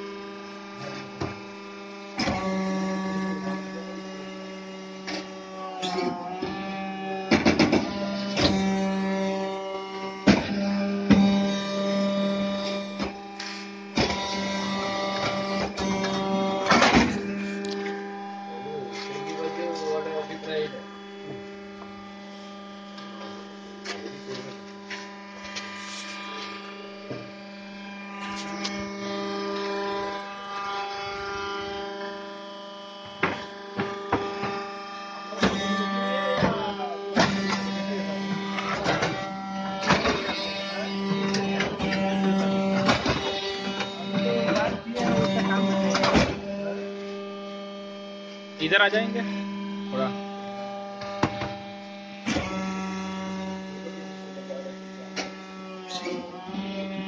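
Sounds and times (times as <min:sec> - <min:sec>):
machine motor humming: 0:00.0 - 0:57.0.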